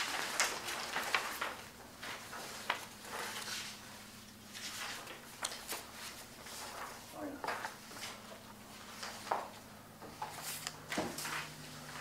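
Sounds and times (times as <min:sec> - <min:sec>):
rustles and knocks of handling: 0:00.0 - 0:12.0
steady low hum: 0:00.0 - 0:12.0.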